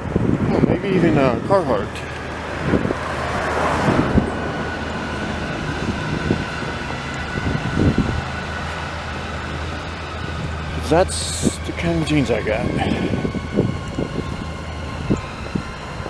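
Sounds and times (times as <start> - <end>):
low engine hum: 0.0 - 16.0
vehicle passing: 0.0 - 16.0.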